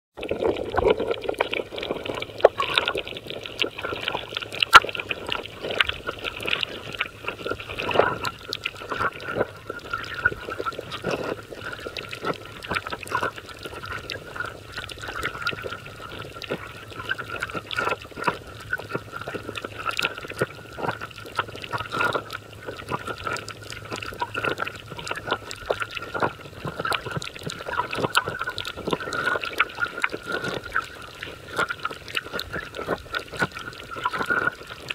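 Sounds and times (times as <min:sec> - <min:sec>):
underwater moving water: 0:00.1 - 0:34.9
underwater clicks and crackles: 0:00.2 - 0:34.9.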